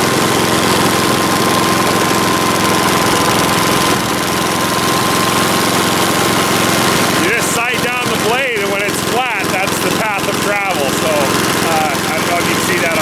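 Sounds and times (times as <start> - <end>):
sawmill engine running with whine: 0.0 - 13.0.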